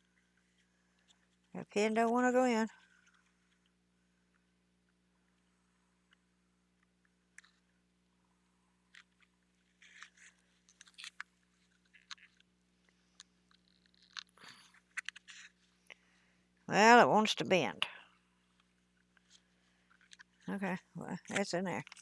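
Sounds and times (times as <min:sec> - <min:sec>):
crackling scraping and small clicks: 0:00.0 - 0:07.8, 0:08.8 - 0:16.2, 0:18.4 - 0:22.0.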